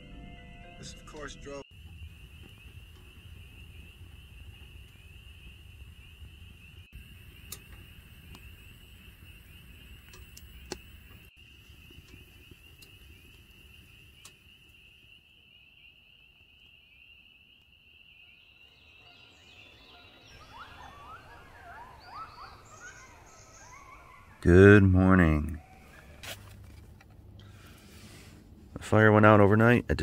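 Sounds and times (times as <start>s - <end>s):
distant frogs peeping: 1.7s - 28.3s
wood fire crackling: 1.8s - 18.3s, 20.3s - 28.9s
birds chirping and singing: 1.9s - 26.5s.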